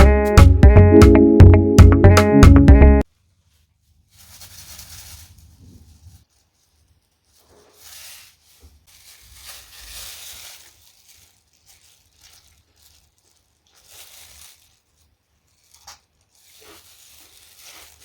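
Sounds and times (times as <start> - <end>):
food packaging rustling: 3.1 - 18.0.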